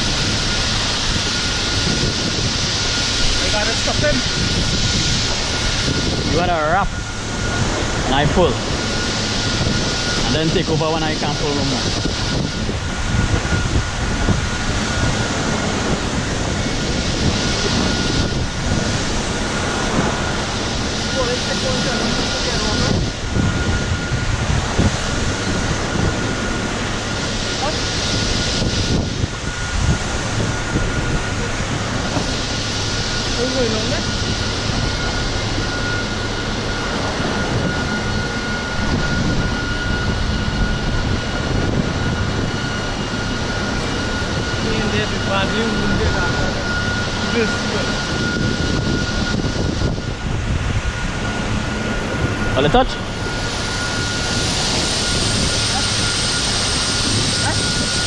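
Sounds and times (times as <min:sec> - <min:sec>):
boat engine running: 0:00.0 - 0:58.0
rough sea: 0:00.0 - 0:58.0
thin steady whine: 0:00.0 - 0:58.0
wind rushing: 0:00.0 - 0:58.0.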